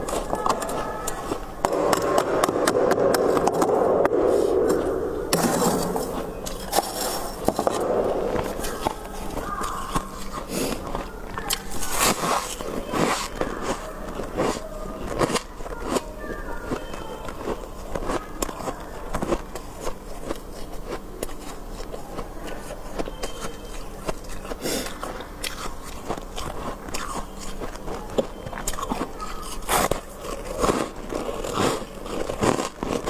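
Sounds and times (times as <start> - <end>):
freezer frost crunching: 0.0 - 33.0.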